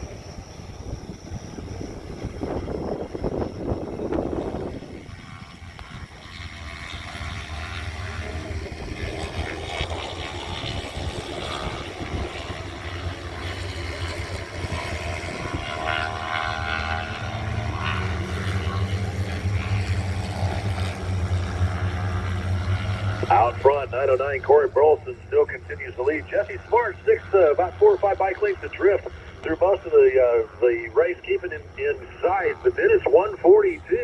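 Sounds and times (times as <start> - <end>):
distant racing motorcycle engines: 0.0 - 34.0
steady low hum: 0.0 - 34.0.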